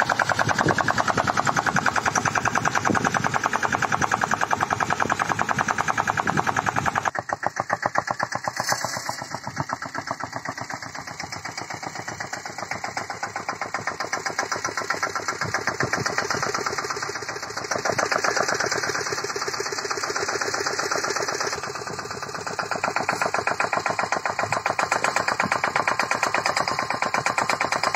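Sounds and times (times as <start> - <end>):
small tractor engine running: 0.0 - 27.9.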